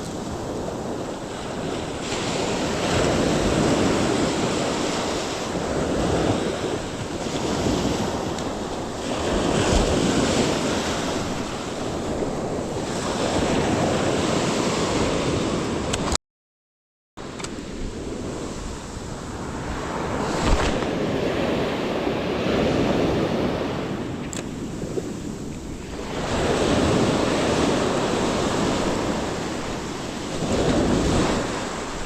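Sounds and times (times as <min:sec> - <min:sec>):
surf washing onto beach: 0:00.0 - 0:16.1, 0:17.2 - 0:32.0
wind buffeting microphone: 0:00.0 - 0:16.2, 0:17.2 - 0:32.0.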